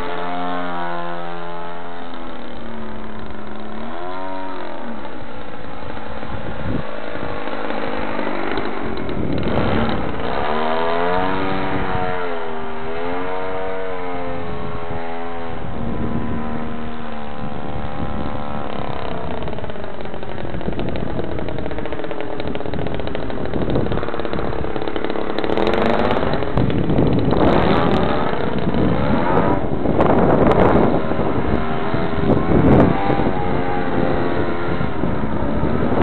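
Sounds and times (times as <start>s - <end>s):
model plane motor and propeller: 0.0s - 36.0s.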